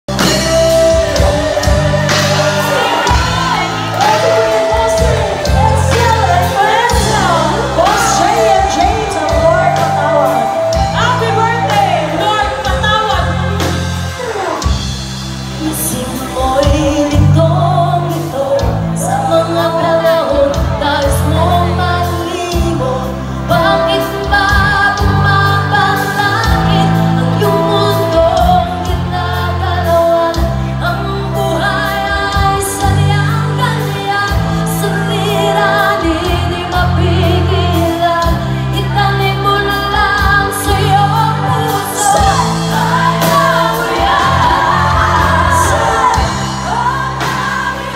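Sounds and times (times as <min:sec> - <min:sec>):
bass line: 0:00.0 - 0:47.9
live pop-rock band: 0:00.1 - 0:47.9
women singing: 0:00.2 - 0:13.5, 0:15.6 - 0:47.9.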